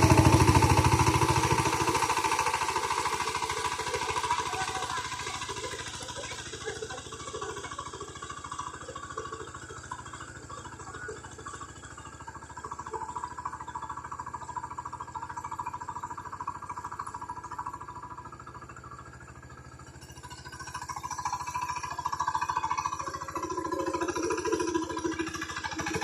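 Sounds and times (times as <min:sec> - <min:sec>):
engine running with firing beat: 0:00.0 - 0:26.0.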